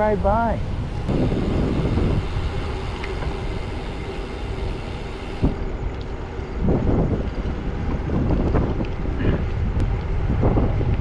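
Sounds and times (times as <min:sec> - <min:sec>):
bicycle tyres rolling on pavement: 0:00.0 - 0:11.0
wind rushing over microphone: 0:00.0 - 0:11.0.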